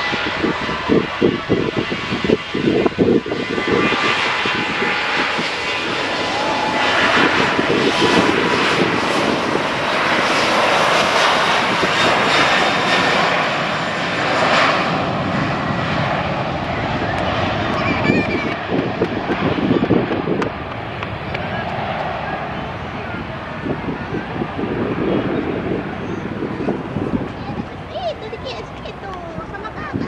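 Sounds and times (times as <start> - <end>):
airplane engines running: 0.0 - 30.0.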